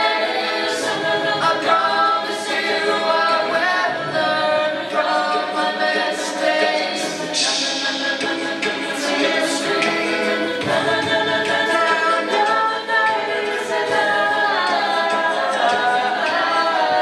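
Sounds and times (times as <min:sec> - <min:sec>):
a cappella group singing: 0:00.0 - 0:17.0.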